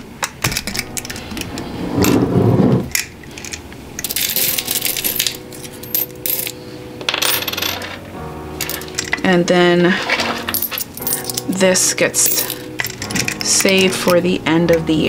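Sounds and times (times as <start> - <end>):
coins clinking and rattling: 0.4 - 2.2, 2.9 - 9.3, 10.0 - 14.2.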